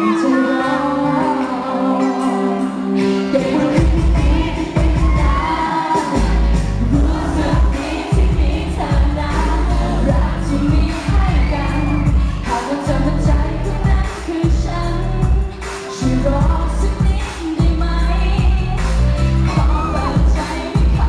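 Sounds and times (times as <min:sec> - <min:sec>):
woman singing into microphone: 0:00.0 - 0:21.0
backing track with bass beat: 0:03.7 - 0:21.0.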